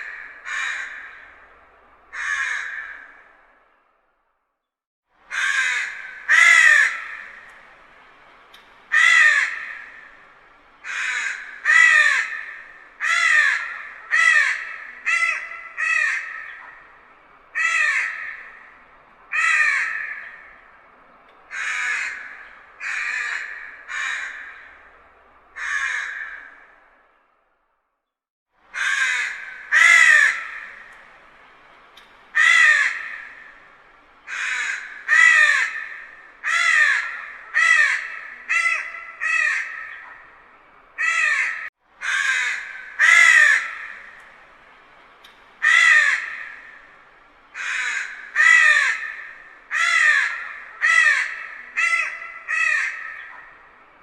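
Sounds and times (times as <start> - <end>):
crow cawing: 0.0 - 3.6, 5.3 - 8.2, 8.9 - 27.0, 28.7 - 31.4, 32.0 - 44.5, 45.6 - 53.8.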